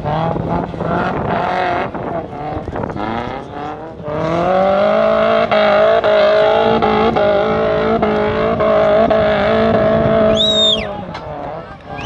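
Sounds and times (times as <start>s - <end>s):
off-road engine revving hard: 0.0s - 12.0s.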